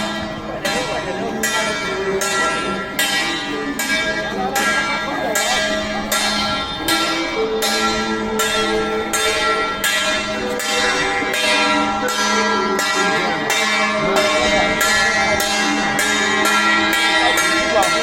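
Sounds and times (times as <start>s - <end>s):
bell ringing: 0.0s - 18.0s.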